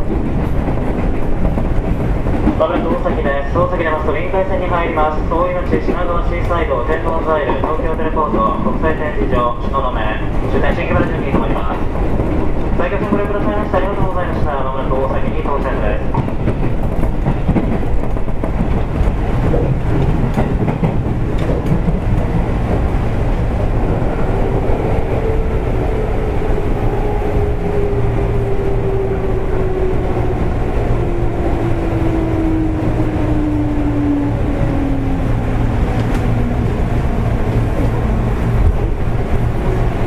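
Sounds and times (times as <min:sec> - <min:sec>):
rail joint clicks: 0:00.0 - 0:40.0
train wheels rumbling on rail: 0:00.0 - 0:40.0.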